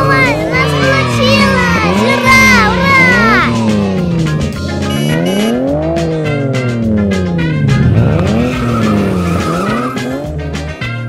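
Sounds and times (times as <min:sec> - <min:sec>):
background music with steady beat: 0:00.0 - 0:11.0
engine-like revving: 0:00.0 - 0:11.0.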